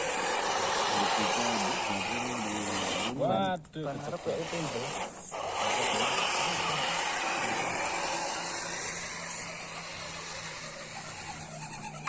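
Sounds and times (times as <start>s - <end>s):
toy car electric motor whirring: 0.0s - 12.0s.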